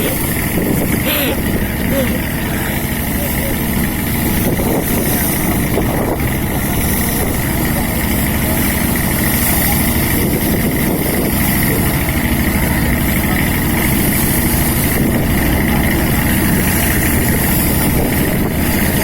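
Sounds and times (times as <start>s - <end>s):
boat engine throbbing: 0.0s - 19.0s.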